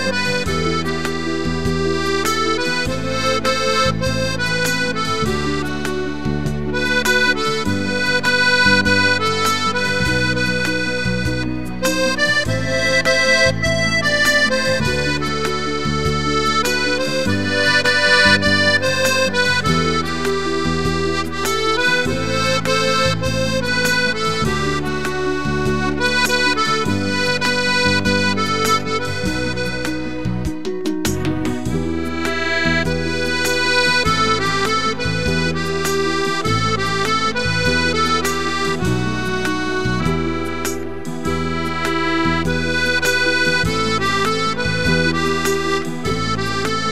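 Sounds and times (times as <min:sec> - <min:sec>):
accordion playing a melody: 0:00.0 - 0:46.9.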